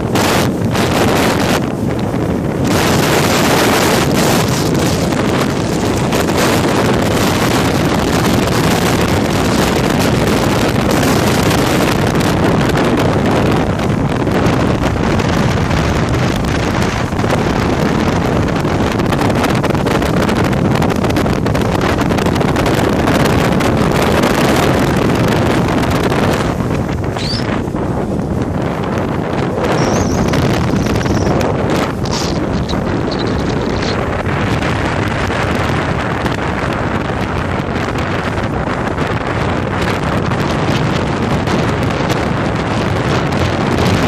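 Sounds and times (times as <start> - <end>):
motorboat engine running: 0.0 - 44.0
wind buffeting microphone: 0.0 - 44.0.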